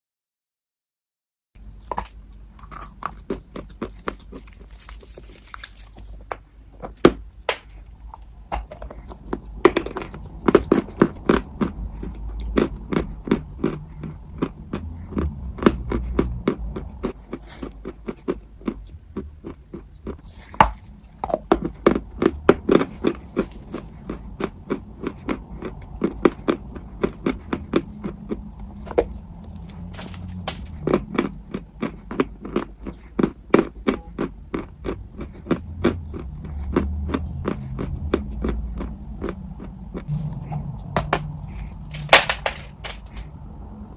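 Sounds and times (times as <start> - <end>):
crunching brittle food: 1.6 - 43.3.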